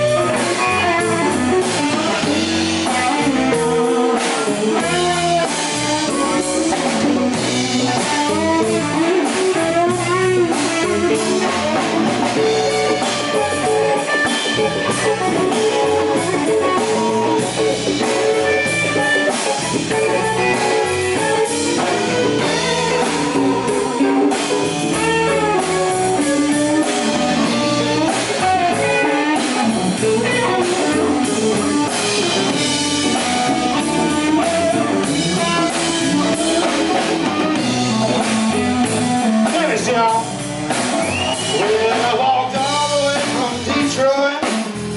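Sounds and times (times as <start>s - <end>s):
bass guitar: 0.0s - 44.9s
drums: 0.0s - 44.9s
electric guitar lead: 0.0s - 44.9s.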